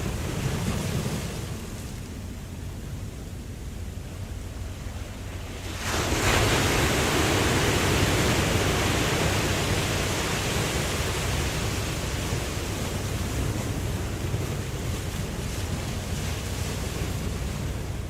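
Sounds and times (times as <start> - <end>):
low surf rumble: 0.0 - 18.0
ocean wave breaking: 0.0 - 18.0.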